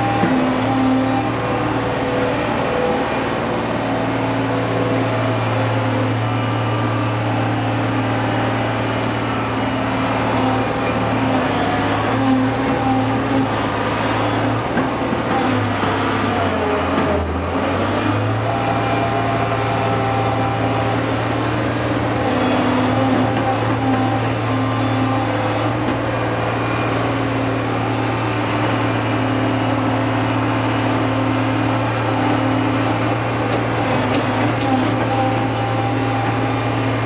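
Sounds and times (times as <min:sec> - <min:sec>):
motor drone: 0:00.0 - 0:37.0.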